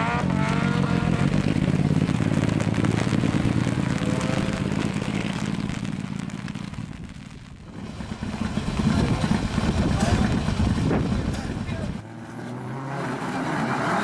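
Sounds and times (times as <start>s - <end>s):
turbocharged car engine: 0.0s - 14.0s.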